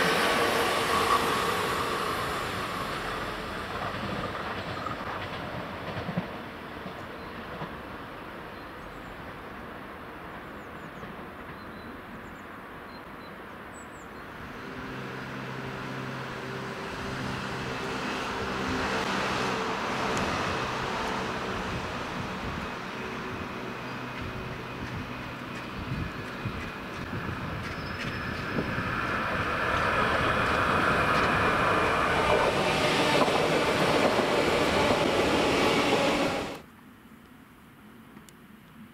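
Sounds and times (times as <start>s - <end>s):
train rolling noise: 0.0s - 36.7s.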